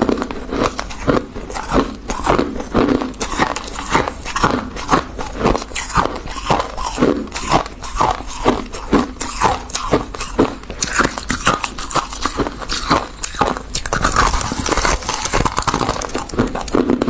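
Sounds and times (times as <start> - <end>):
chewing crunchy frost: 0.0 - 17.0.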